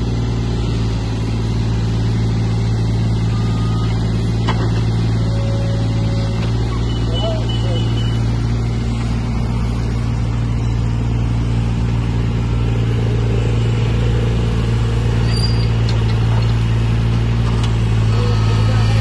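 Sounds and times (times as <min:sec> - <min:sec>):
diesel engine running under load: 0:00.0 - 0:19.0
hydraulics working: 0:00.0 - 0:19.0.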